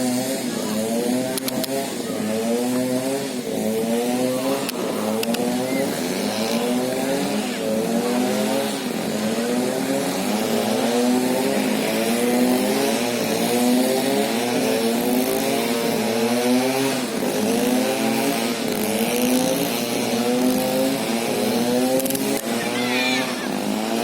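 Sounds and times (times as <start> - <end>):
excavator engine drone: 0.0 - 24.0.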